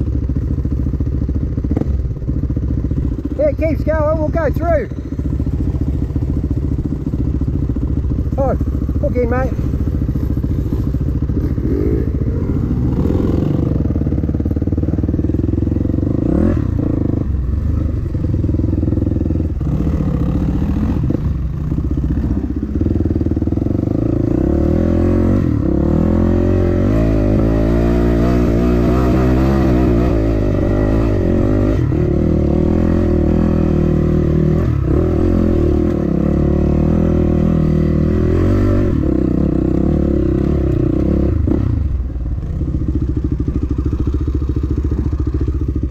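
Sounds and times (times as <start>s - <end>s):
dirt bike engine revving: 0.8s - 45.9s.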